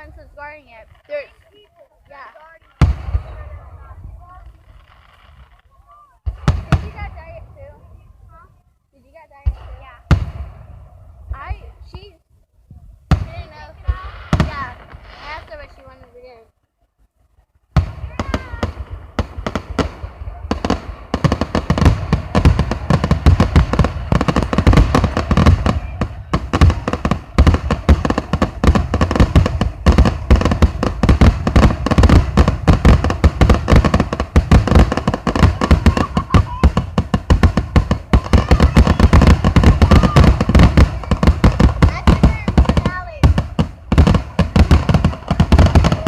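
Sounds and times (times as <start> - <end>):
fireworks barrage: 0.0 - 8.6, 9.4 - 12.2, 13.0 - 16.5, 17.6 - 46.0.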